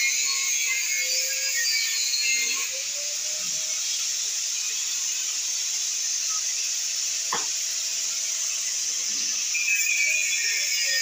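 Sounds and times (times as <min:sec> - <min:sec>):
angle grinder cutting steel: 0:00.0 - 0:11.0
faint motor whine: 0:01.3 - 0:11.0.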